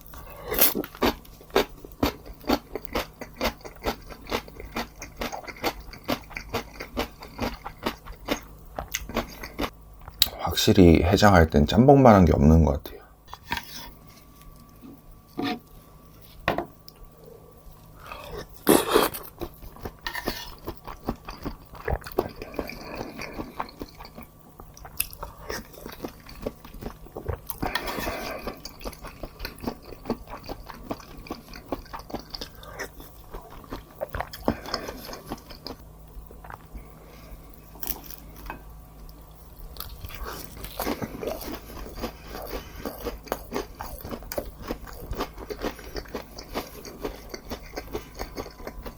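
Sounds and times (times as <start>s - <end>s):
person chewing food: 0.0s - 10.3s, 17.9s - 48.9s.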